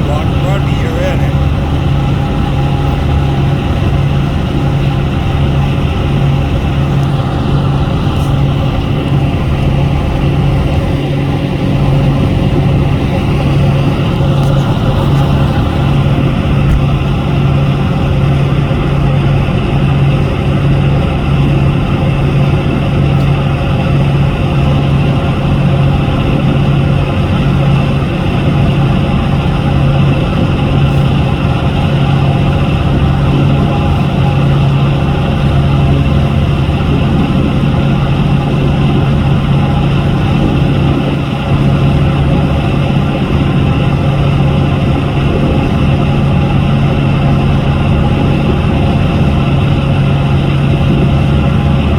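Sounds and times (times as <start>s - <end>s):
boat engine humming: 0.0s - 51.9s.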